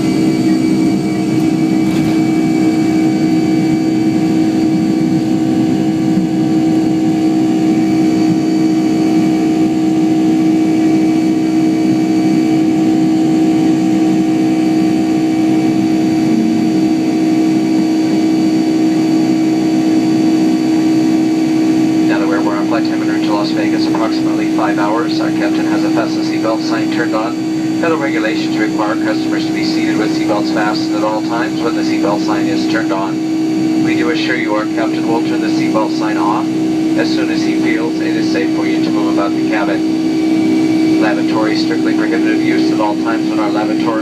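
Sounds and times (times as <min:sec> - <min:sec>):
jet engine cabin noise: 0:00.0 - 0:44.0.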